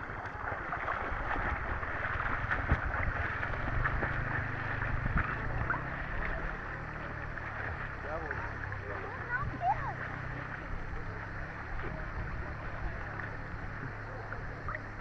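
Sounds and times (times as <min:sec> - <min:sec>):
sea water sloshing and splashing: 0:00.0 - 0:15.0.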